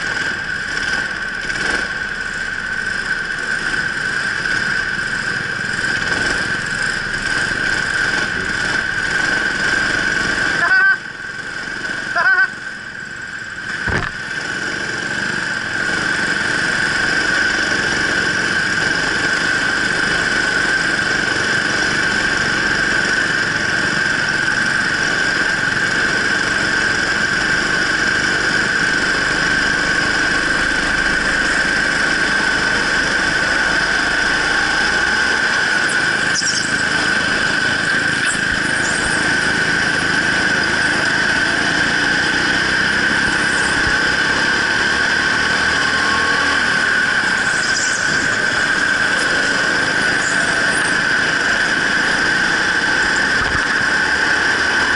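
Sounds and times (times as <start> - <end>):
go-kart engine whine: 0.0 - 54.9.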